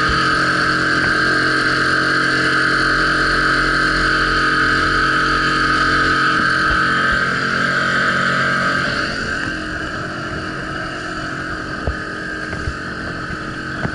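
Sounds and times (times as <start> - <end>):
outboard motor running: 0.0 - 13.9.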